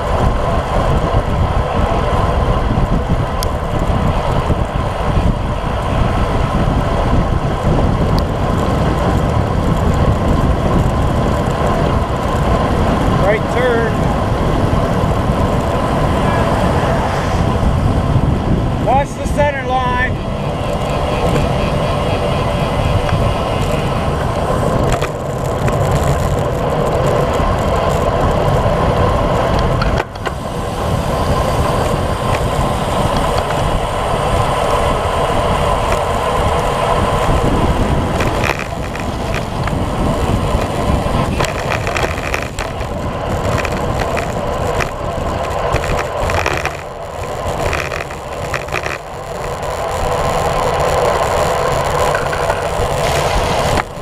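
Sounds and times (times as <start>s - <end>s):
tyre noise on wet asphalt: 0.0s - 54.0s
wind rushing over microphone: 0.0s - 54.0s.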